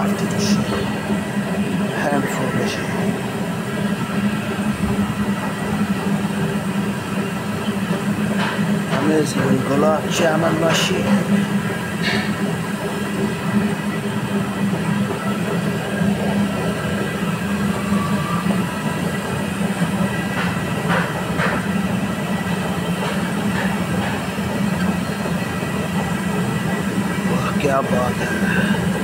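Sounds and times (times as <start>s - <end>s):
machine low mechanical drone: 0.0s - 29.0s.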